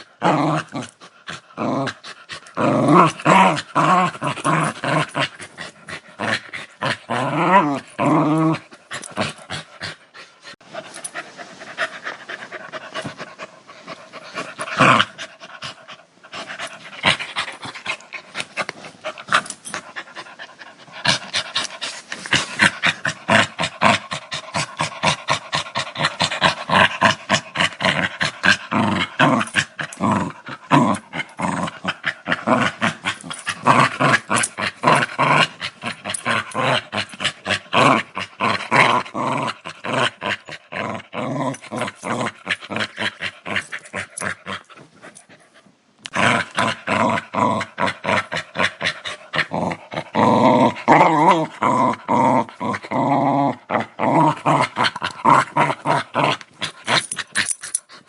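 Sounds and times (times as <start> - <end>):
dog growling: 0.0 - 11.2, 11.8 - 44.8, 46.0 - 57.8.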